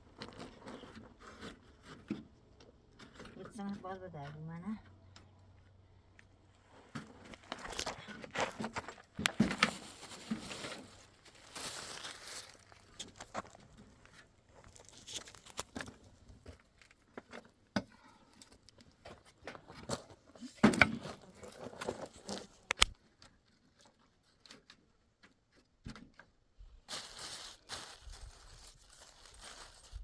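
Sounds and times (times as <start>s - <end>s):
objects being handled: 0.1s - 30.0s.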